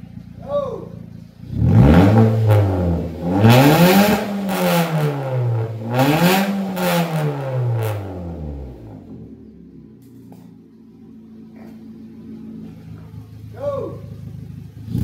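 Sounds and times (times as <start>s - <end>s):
car engine revving: 1.0s - 15.0s.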